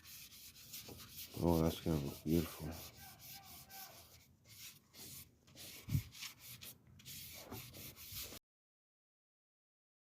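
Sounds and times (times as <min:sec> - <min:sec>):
palm rubbing on wood: 0:00.0 - 0:08.4.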